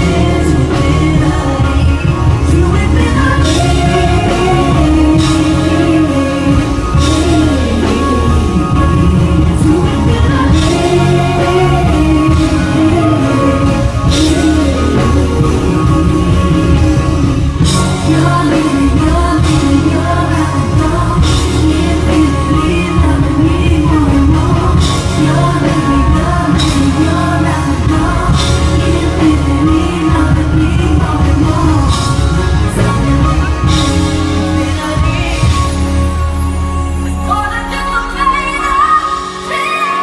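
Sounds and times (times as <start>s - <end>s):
woman singing live: 0.0s - 36.4s, 37.0s - 40.0s
band playing with bass line: 0.0s - 40.0s.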